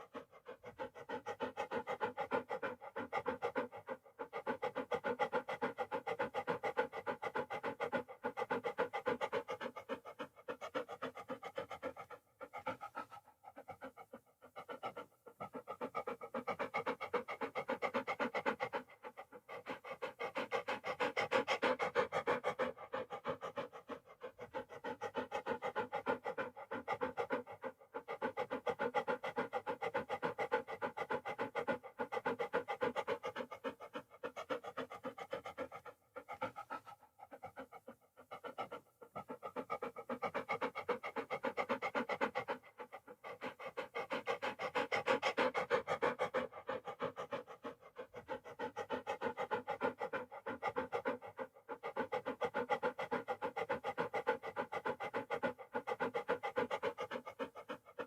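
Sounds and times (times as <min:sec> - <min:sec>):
dog panting: 0:00.0 - 0:58.0.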